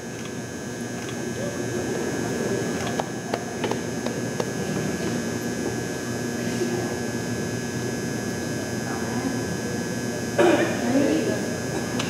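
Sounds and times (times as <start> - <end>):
steady hum: 0.0 - 12.0
murmur of voices: 0.9 - 12.0.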